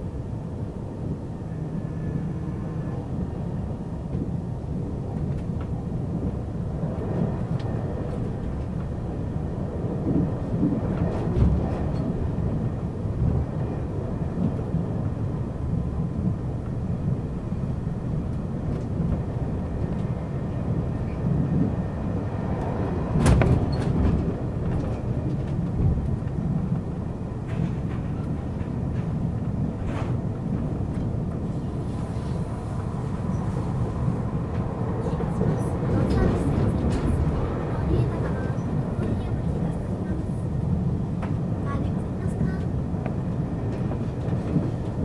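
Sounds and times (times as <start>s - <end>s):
train rumbling from inside carriage: 0.0s - 45.0s.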